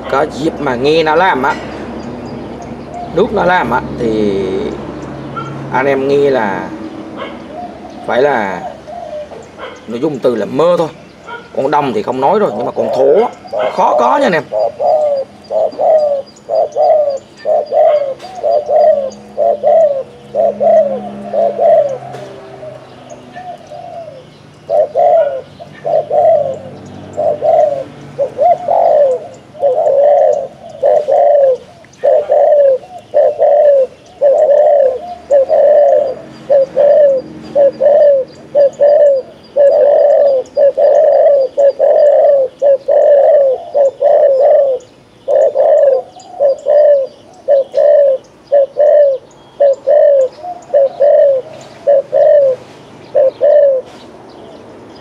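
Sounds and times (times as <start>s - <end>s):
dove cooing rapidly: 0.0s - 54.7s.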